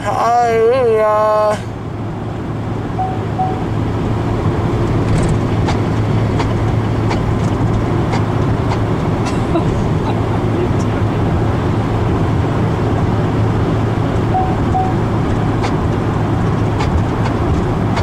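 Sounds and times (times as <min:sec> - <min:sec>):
road and engine hum: 0:00.0 - 0:18.0.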